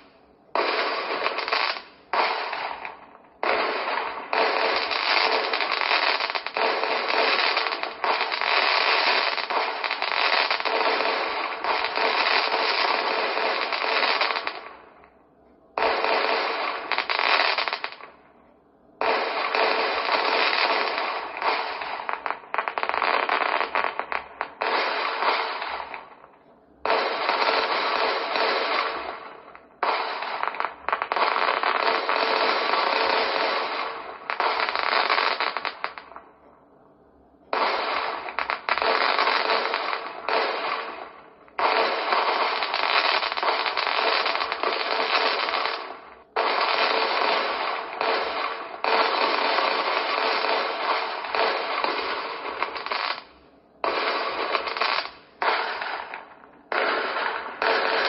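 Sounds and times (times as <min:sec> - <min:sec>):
fireworks shell bursts: 0:00.0 - 0:15.0, 0:19.0 - 0:36.2, 0:37.5 - 0:58.0
fireworks crackling: 0:00.0 - 0:18.4, 0:19.0 - 0:36.5, 0:37.4 - 0:58.0.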